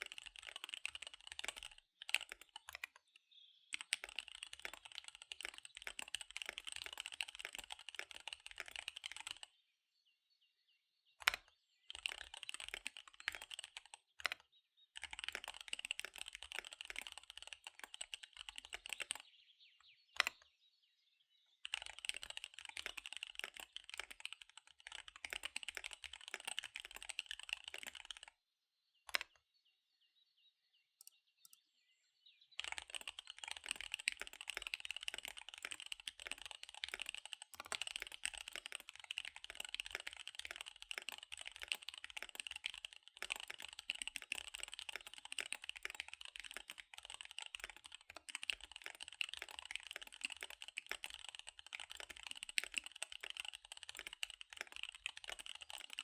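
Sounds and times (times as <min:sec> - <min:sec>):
fast typing on mechanical keyboard: 0:00.0 - 0:03.0, 0:03.7 - 0:09.5, 0:11.2 - 0:14.4, 0:15.0 - 0:19.3, 0:21.6 - 0:28.3, 0:32.6 - 0:56.0.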